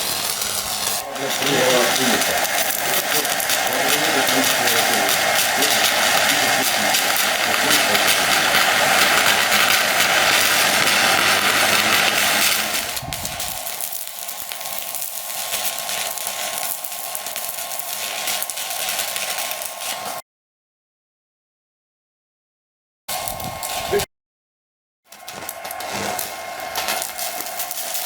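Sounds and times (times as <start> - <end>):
welding arc crackling and sizzling: 0.0 - 20.2, 23.1 - 24.1, 25.1 - 28.0.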